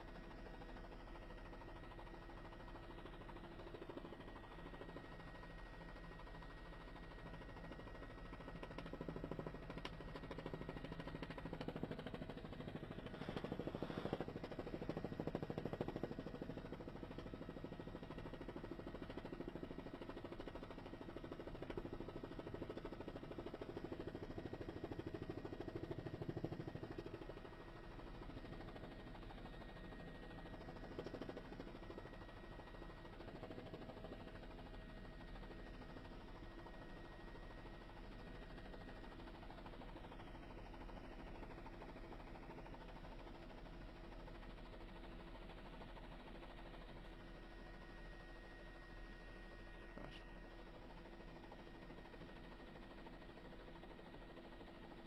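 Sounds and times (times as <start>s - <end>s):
faint helicopter hum: 0.0s - 55.0s.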